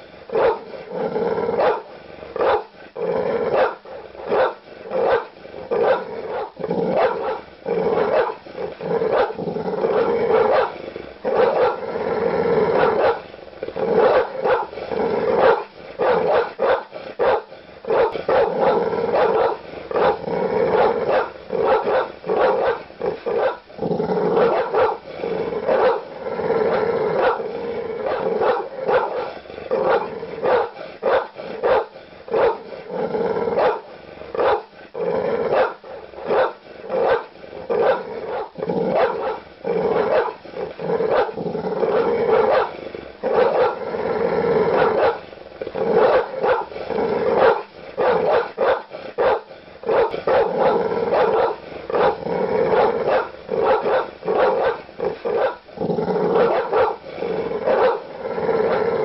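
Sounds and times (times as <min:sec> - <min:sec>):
large dog barking: 0:00.3 - 0:11.9, 0:12.5 - 0:34.7, 0:35.3 - 0:43.9, 0:44.6 - 0:59.0.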